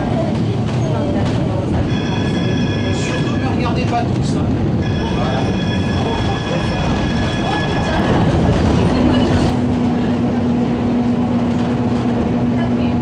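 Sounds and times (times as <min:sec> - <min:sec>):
tram wheels rumbling on track: 0:00.0 - 0:13.0.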